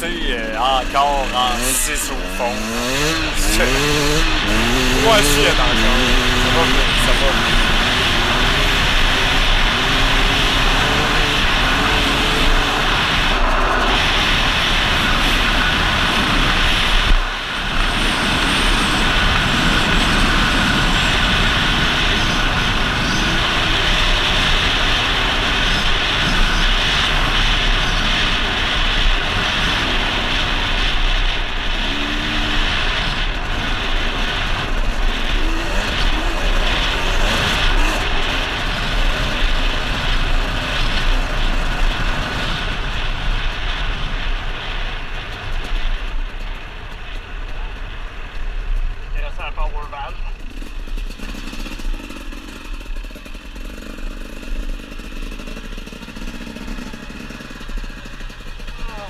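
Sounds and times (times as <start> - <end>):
wind rushing over microphone: 0.0 - 51.1
two-stroke motorcycle engine revving: 0.0 - 59.0.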